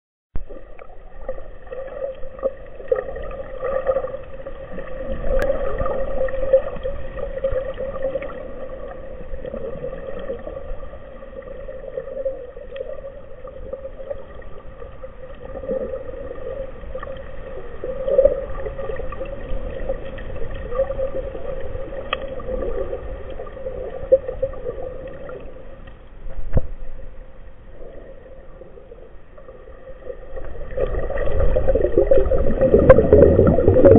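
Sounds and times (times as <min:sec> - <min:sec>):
low water rumble: 0:00.4 - 0:33.9
underwater droning hum: 0:00.4 - 0:33.9.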